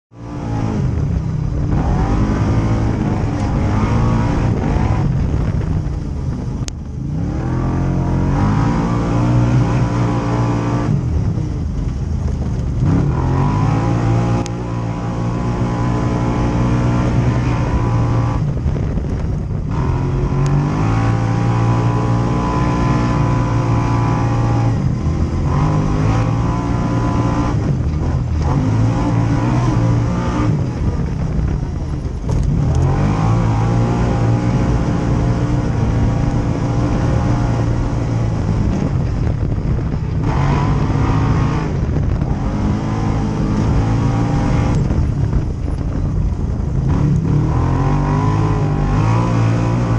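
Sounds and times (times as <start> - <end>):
off-road vehicle engine revving: 0.1 - 49.9.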